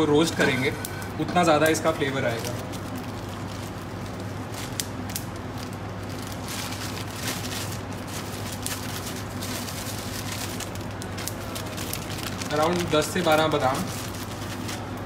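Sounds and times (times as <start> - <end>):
steady low hum: 0.0 - 15.0
seeds crackling in a pan: 0.2 - 15.0.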